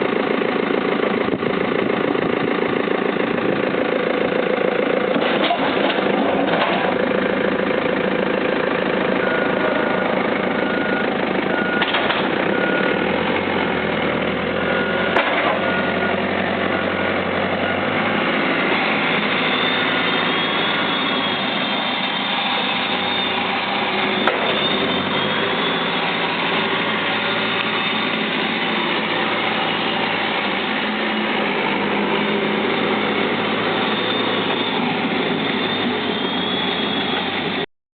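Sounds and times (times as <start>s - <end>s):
diesel engine running: 0.0s - 37.7s.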